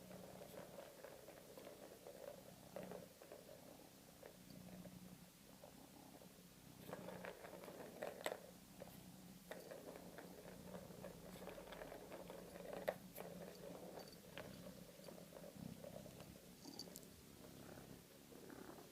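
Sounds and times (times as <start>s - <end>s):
cat purring: 0.0s - 18.9s.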